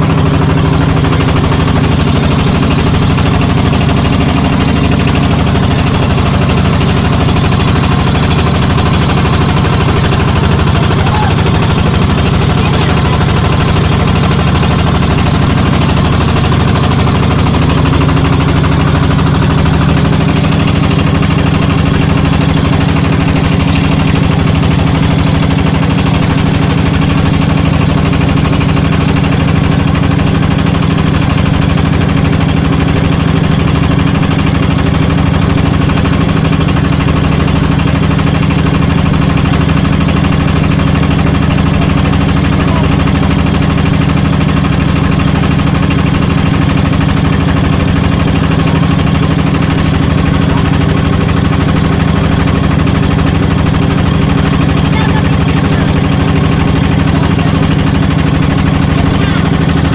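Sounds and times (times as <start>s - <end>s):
motorboat engine putter: 0.0s - 59.9s.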